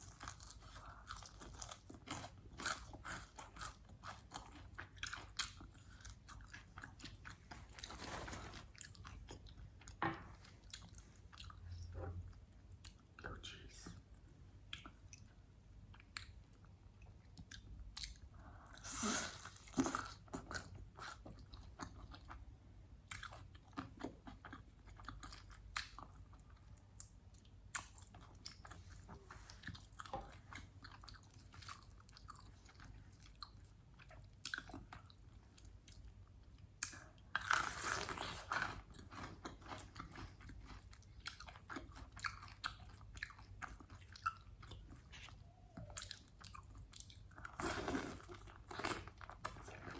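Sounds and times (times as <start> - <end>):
chewing crispy chicken: 0.0 - 10.0, 10.6 - 49.9.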